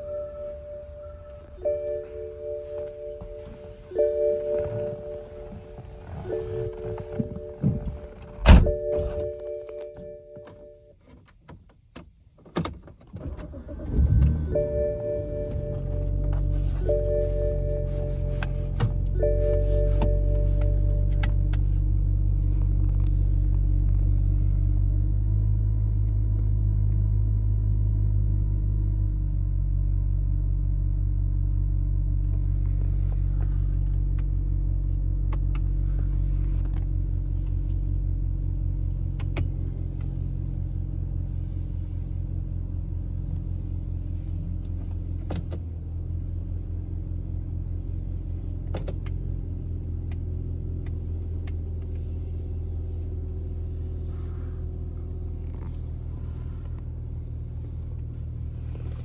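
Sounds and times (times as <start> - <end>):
car engine idling: 0.0 - 10.6, 13.5 - 59.0.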